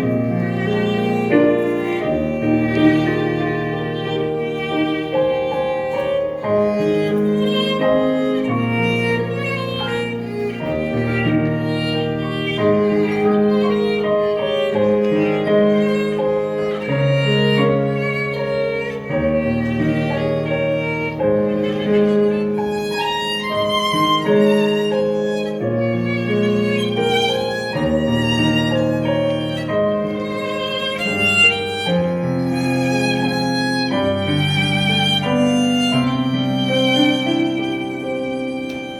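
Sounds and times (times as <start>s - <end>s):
small ensemble playing a tune: 0.0s - 38.9s
violins playing melody: 0.0s - 38.9s.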